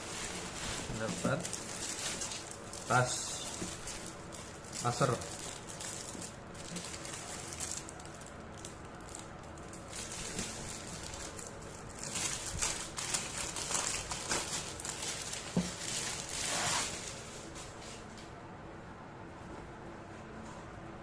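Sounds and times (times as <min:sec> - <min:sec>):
packaging crinkling: 0:00.0 - 0:18.1.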